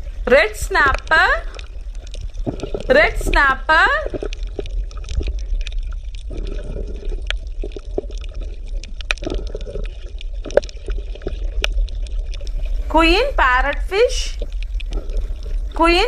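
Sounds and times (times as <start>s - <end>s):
sharp underwater clicks: 0.0s - 15.8s
steady low rumble: 0.0s - 16.0s
water gurgling: 0.0s - 16.0s.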